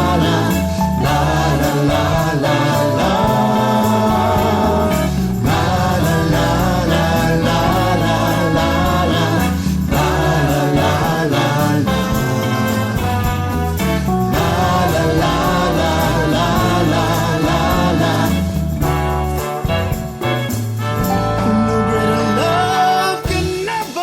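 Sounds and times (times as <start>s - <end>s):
choir singing gospel: 0.0s - 24.0s
instrumental backing: 0.0s - 24.0s.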